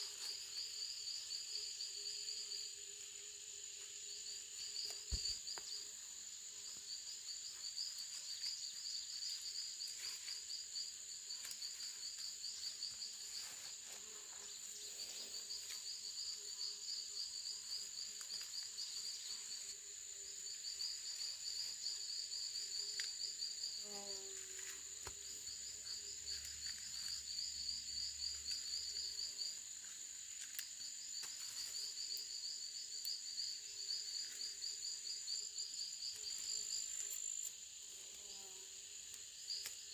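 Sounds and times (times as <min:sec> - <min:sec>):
insect chorus drone and chirps: 0:00.0 - 0:39.9.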